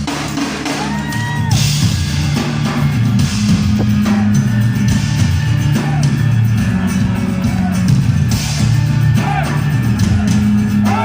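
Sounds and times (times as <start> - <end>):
heavy tribal drumming: 0.0 - 11.0
live metal band playing: 0.0 - 11.0.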